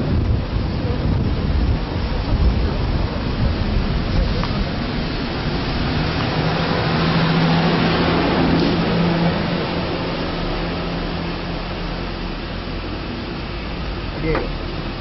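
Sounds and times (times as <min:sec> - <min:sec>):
low engine hum: 0:00.0 - 0:15.0
vehicle engine rumbling: 0:00.0 - 0:15.0
wind noise on microphone: 0:00.0 - 0:15.0.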